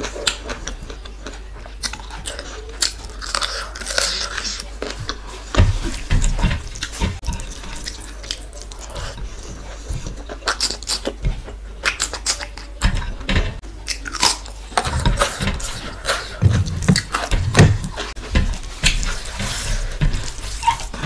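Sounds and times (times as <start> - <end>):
wet chewing and lip smacking: 0.0 - 5.2, 6.3 - 12.8, 13.8 - 19.6
sticky clicks of food mixed by hand: 0.0 - 21.0.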